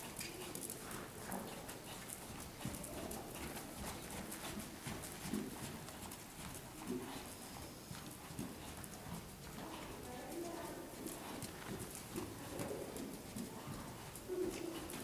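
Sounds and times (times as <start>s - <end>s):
horse hoofbeats on soft footing: 0.0s - 15.0s.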